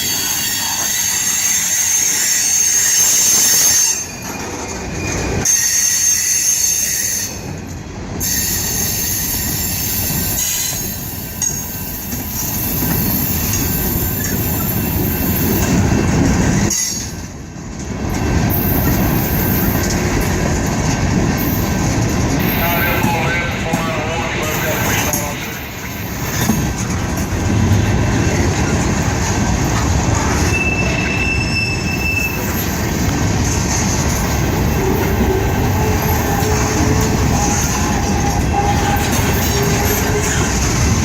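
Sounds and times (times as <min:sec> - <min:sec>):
wheels squealing against rails: 0:00.0 - 0:17.4, 0:18.4 - 0:20.4, 0:21.3 - 0:28.9, 0:29.7 - 0:41.0
train cars rolling past: 0:00.0 - 0:41.0.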